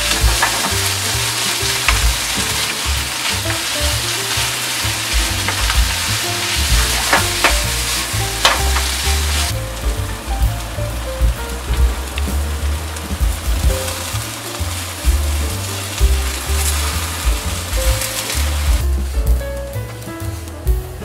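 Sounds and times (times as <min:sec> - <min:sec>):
vegetables sizzling in a pan: 0:00.0 - 0:09.8, 0:10.4 - 0:19.0
wooden spatula knocking on a pan: 0:00.0 - 0:19.4
background music with bass: 0:00.0 - 0:21.0.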